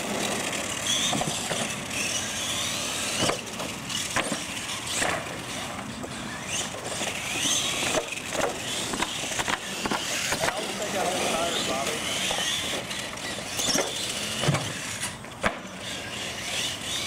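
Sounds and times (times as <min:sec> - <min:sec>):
toy truck electric motors whining: 0:00.0 - 0:17.0
trucks clacking on ramps: 0:00.0 - 0:17.0.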